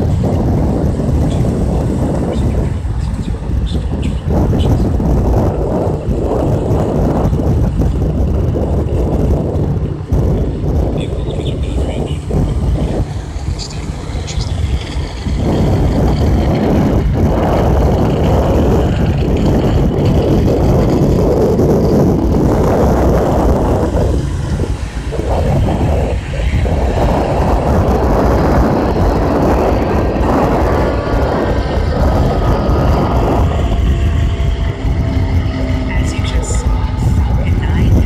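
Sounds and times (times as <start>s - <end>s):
distant rocket launch rumbling: 0.0s - 38.0s.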